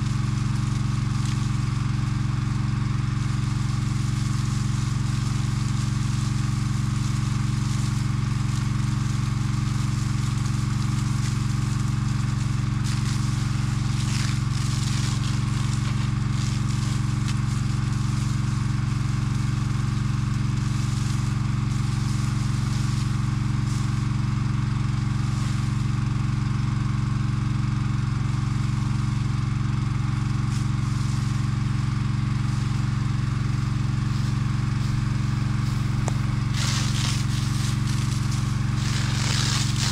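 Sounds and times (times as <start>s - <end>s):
hose spraying water hiss: 0.0s - 26.9s, 28.6s - 39.9s
pump engine running: 0.0s - 39.9s.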